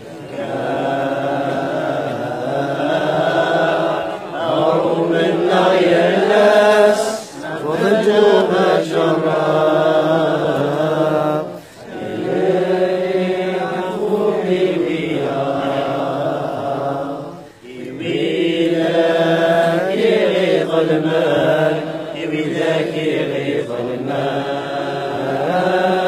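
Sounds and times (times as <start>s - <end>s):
crowd chanting a hymn: 0.0s - 26.0s.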